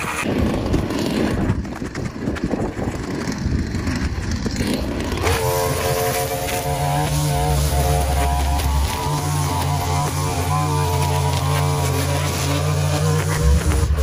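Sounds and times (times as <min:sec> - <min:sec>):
string trimmer engine running: 0:00.1 - 0:14.0.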